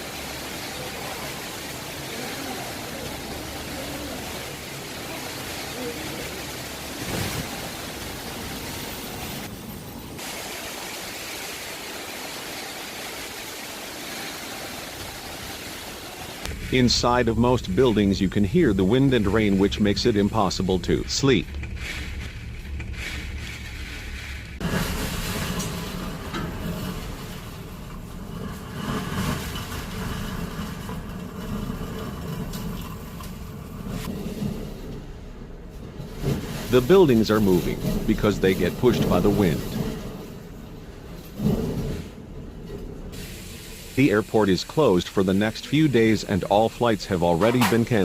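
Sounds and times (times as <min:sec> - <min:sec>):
heavy rain: 0:00.0 - 0:48.0.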